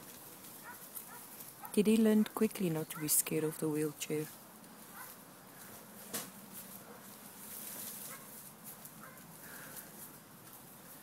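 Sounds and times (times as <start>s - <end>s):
dogs rustling among plants: 0.0s - 11.0s.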